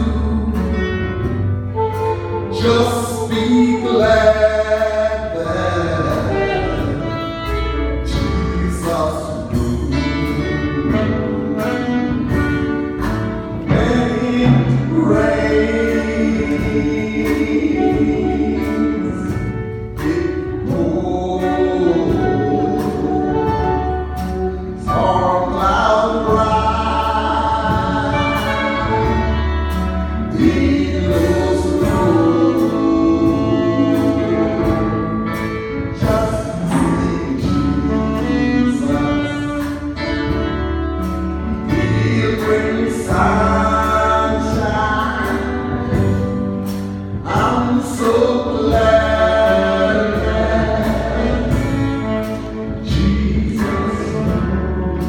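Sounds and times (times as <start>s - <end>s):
keyboard bass and drums: 0.0s - 55.0s
choir singing: 1.8s - 7.4s, 8.0s - 40.0s, 41.6s - 55.0s.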